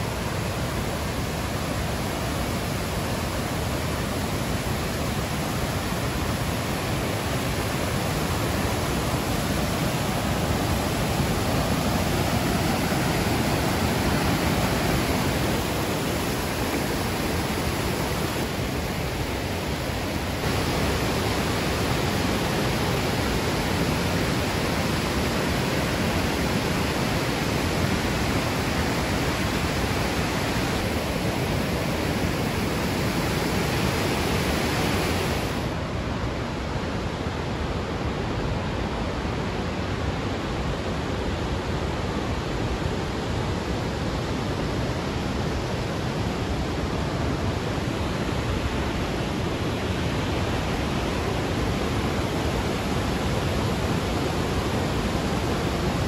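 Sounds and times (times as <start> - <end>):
water rushing over waterfalls: 0.0 - 56.0.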